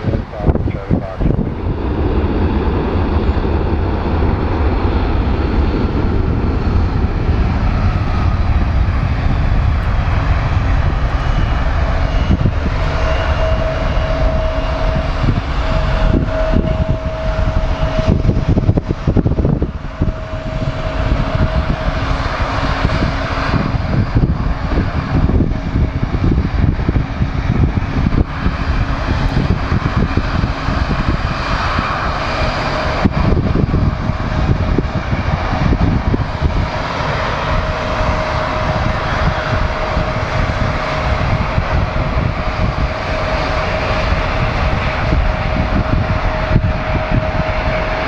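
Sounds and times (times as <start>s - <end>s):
engine whine: 0.0s - 48.0s
jet engines rumbling: 0.0s - 48.0s
wind buffeting microphone: 0.0s - 48.0s.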